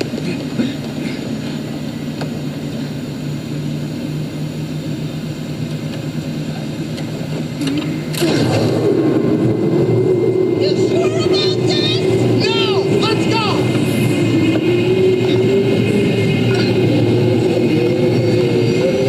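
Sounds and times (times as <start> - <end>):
jet engines humming: 0.0 - 19.0
higher engine tone: 1.2 - 19.0.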